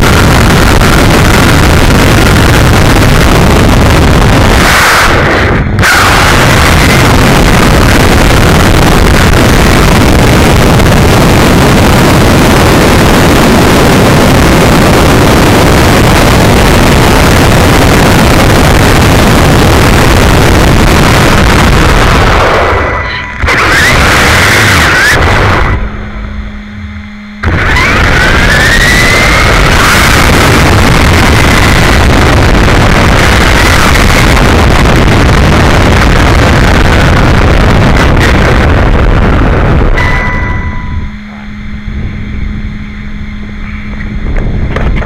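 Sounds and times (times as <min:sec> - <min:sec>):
rc car wind and tyre rush: 0:00.0 - 0:25.9, 0:27.4 - 0:40.5
electric motor whine: 0:00.0 - 0:45.0
steady low hum: 0:00.0 - 0:45.0.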